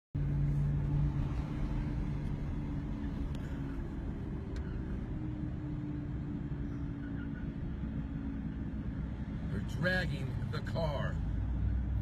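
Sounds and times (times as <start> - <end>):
car road and engine noise: 0.2 - 12.0.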